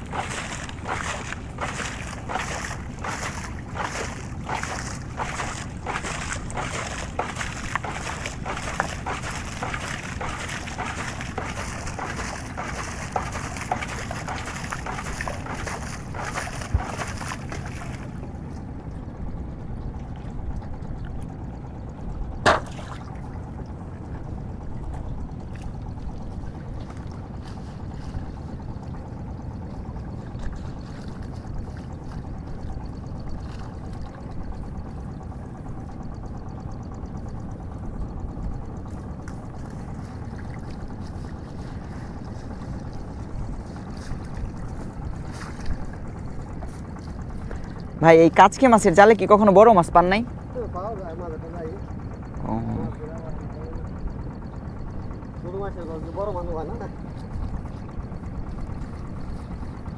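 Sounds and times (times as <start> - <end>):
water splashing around boat: 0.0 - 59.9.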